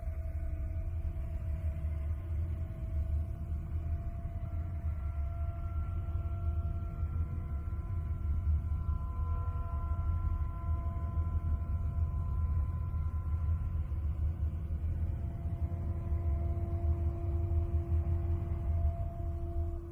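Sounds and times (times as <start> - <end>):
low rumbling drone: 0.0 - 19.9.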